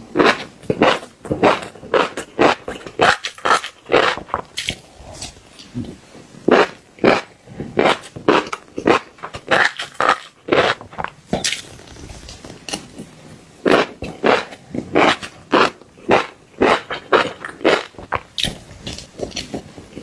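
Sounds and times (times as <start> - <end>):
crunchy chewing: 0.1 - 20.0.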